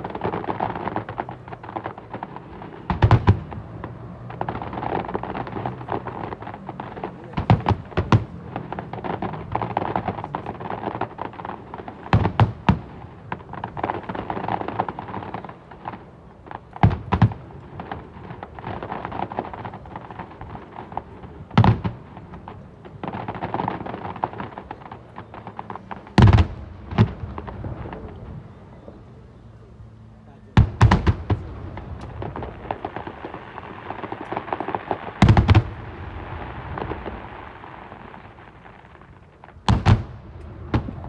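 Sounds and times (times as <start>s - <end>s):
fireworks booming: 0.0s - 41.0s.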